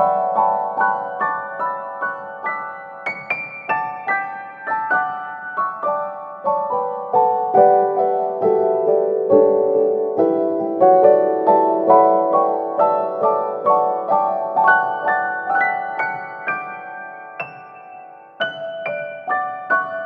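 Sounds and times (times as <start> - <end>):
slow piano melody: 0.0 - 20.0.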